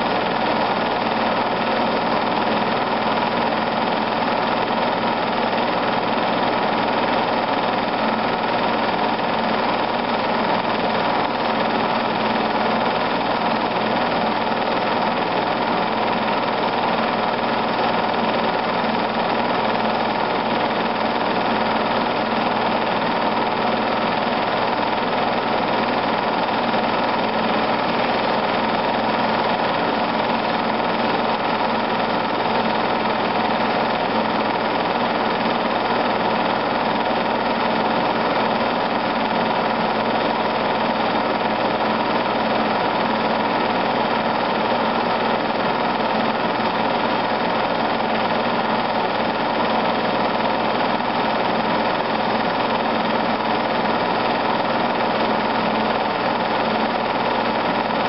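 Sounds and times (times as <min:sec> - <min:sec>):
film projector whirring: 0:00.0 - 0:58.0.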